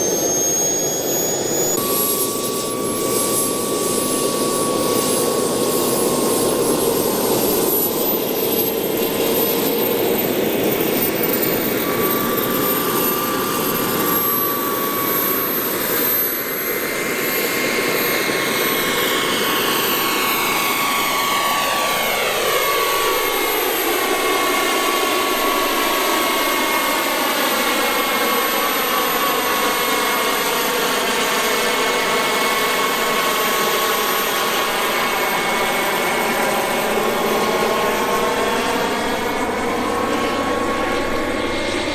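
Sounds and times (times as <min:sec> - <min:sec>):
model airplane motor whine: 0:00.0 - 0:41.9.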